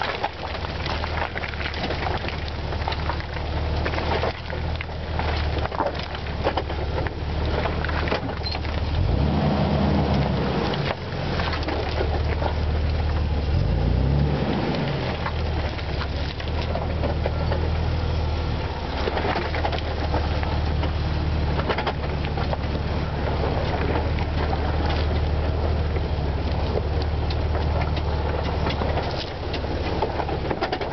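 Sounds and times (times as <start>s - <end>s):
engine revving at crawl: 0.0s - 30.9s
tyres crunching over mud and sticks: 0.0s - 30.9s.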